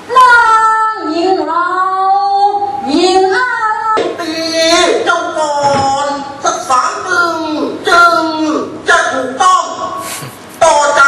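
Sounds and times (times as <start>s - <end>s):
high voice singing: 0.0s - 9.9s.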